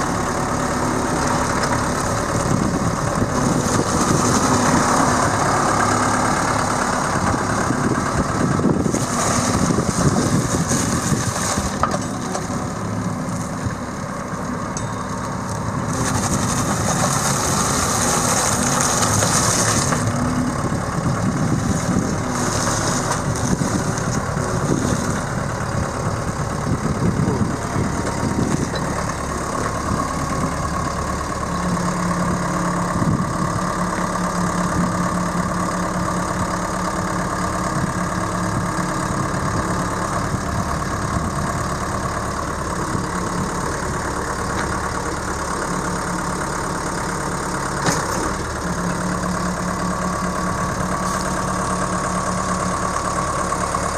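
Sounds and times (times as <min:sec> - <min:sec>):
diesel engine running: 0:00.0 - 0:53.9
engine whine: 0:00.0 - 0:53.9.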